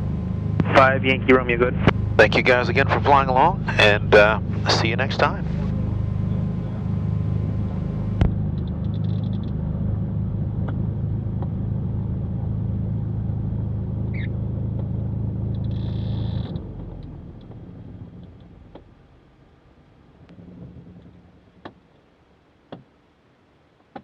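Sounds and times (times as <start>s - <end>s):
twin piston aircraft engines: 0.0s - 22.8s.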